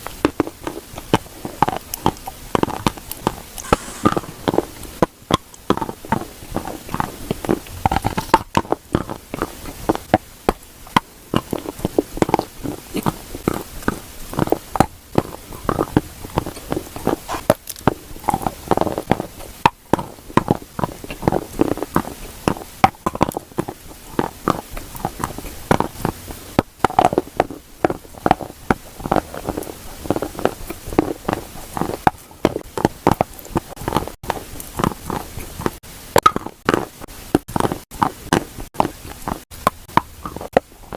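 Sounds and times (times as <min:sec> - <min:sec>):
dry clay crunching: 0:00.2 - 0:40.9.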